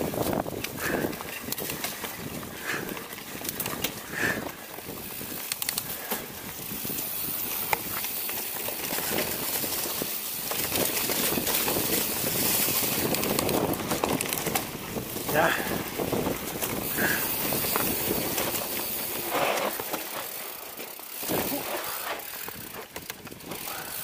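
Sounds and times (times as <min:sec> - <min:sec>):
bike clicks and rattles: 0:00.0 - 0:24.0
bike tyre and wind noise: 0:00.0 - 0:24.0.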